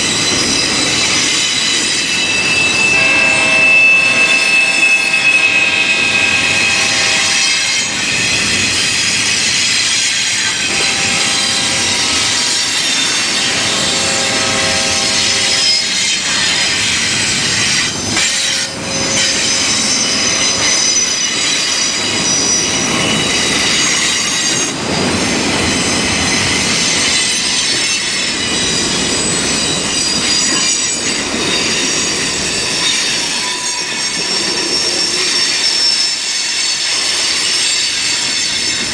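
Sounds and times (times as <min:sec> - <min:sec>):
passing train rumble: 0:00.0 - 0:38.9
steel wheels squealing on rails: 0:00.0 - 0:38.9.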